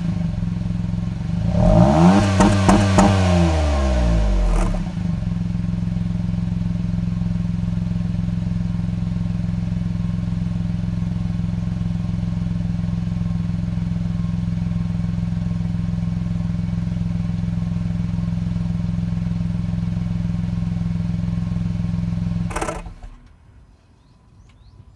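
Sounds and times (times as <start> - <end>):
car engine idling: 0.0 - 24.7.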